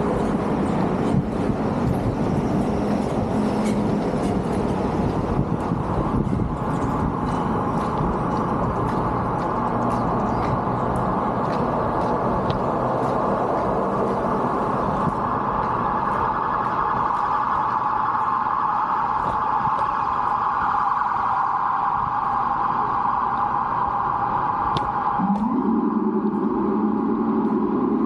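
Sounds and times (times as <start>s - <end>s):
city street traffic hum: 0.0s - 28.0s.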